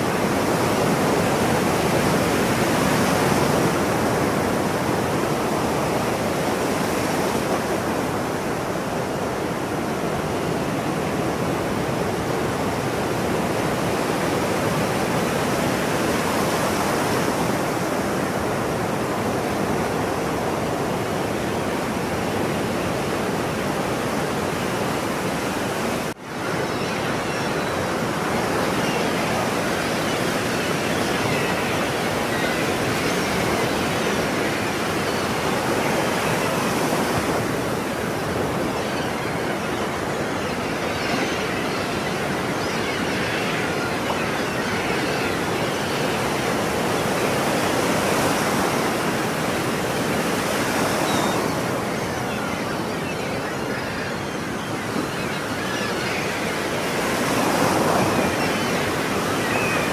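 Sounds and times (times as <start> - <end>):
ocean waves washing onto shore: 0.0 - 59.9.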